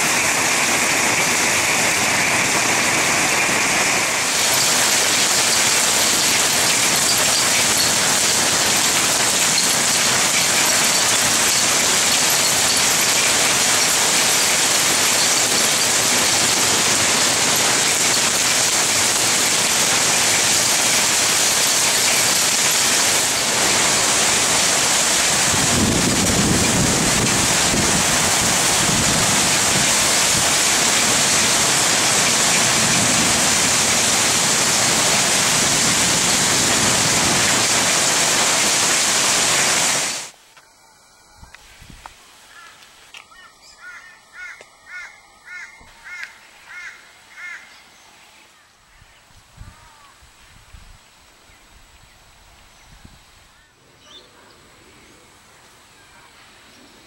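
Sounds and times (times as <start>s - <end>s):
heavy rain pouring: 0.0s - 47.6s.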